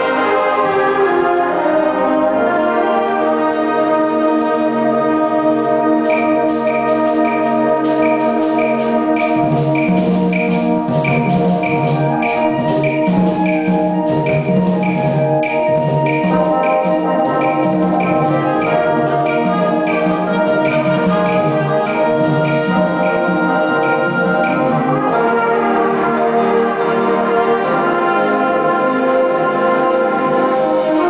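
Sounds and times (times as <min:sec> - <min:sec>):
low brass line: 0:00.0 - 0:31.0
wind and brass chords: 0:00.0 - 0:31.0
percussion pulse: 0:06.1 - 0:31.0.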